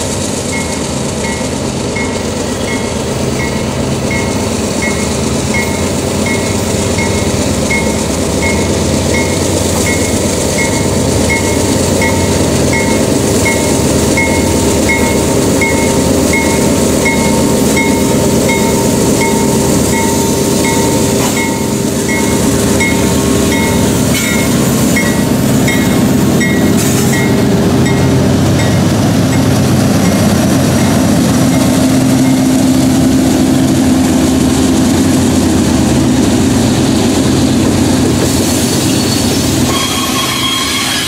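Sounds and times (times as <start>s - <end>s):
diesel locomotive engine rumbling: 0.0s - 41.0s
railroad crossing bell dinging: 0.4s - 33.0s, 38.8s - 41.0s.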